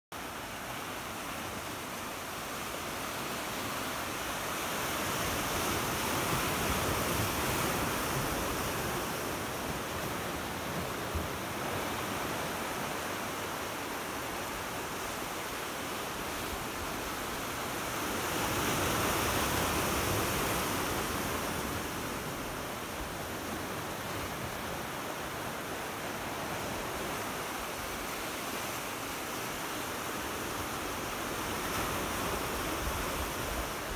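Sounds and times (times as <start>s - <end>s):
sea surf washing against shore: 0.2s - 33.9s.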